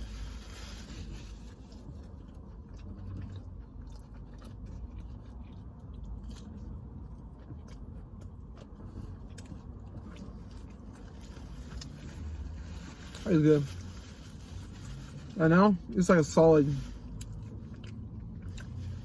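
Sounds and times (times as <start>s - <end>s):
person chewing food: 0.0s - 13.2s, 16.8s - 19.0s
light food crunches: 0.0s - 15.3s.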